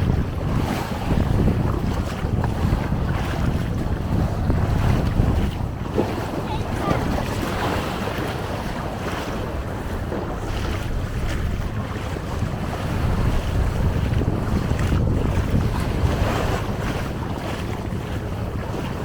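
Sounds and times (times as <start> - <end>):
waves washing on stony shore: 0.0 - 19.0
wind buffeting microphone: 0.0 - 19.0.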